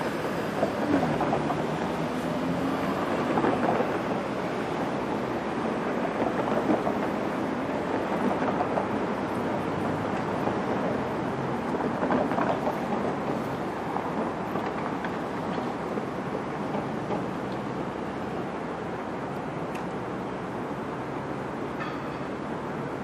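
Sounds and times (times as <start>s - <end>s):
cars driving through intersection: 0.0s - 23.0s.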